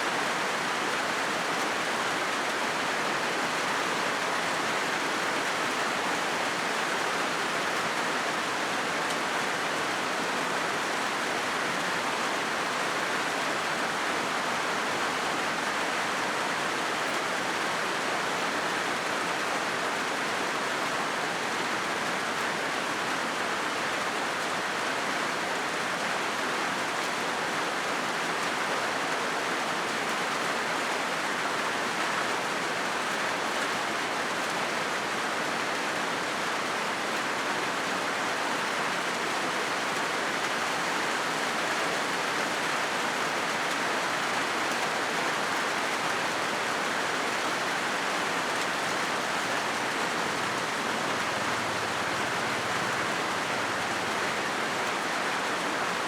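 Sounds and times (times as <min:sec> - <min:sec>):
rain on a metal roof: 0:00.0 - 0:56.0.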